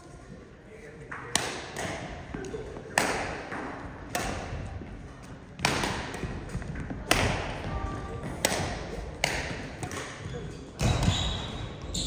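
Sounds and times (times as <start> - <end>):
badminton racket hitting shuttlecock: 1.3 - 11.1.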